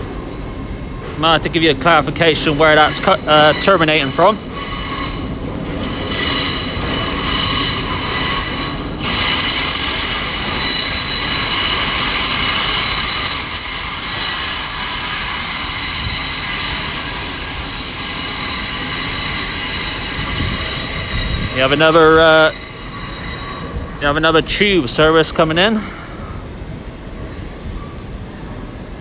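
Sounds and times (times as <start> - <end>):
train wheels squealing on rails: 0.0 - 29.0.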